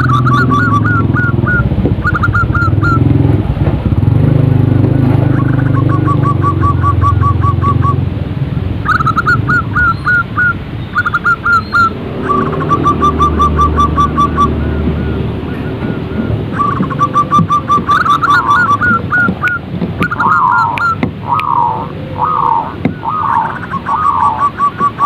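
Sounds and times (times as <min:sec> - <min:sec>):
dove calls: 0:00.0 - 0:03.4, 0:05.0 - 0:08.0, 0:08.8 - 0:25.0.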